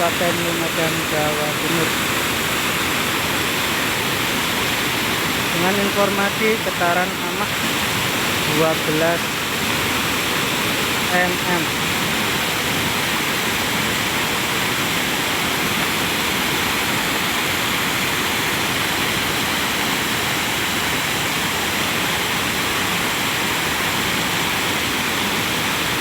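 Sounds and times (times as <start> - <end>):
muddy flood torrent rushing: 0.0 - 26.0.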